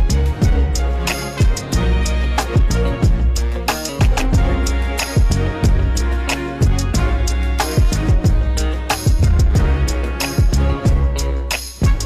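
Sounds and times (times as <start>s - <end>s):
deep bass: 0.0s - 12.0s
drums: 0.0s - 12.0s.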